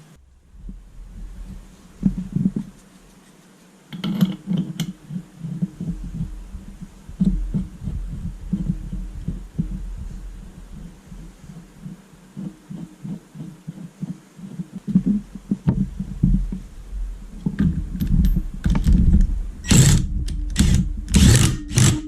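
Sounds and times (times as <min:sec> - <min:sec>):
low irregular knocks and thumps: 0:00.2 - 0:02.8, 0:04.0 - 0:21.9.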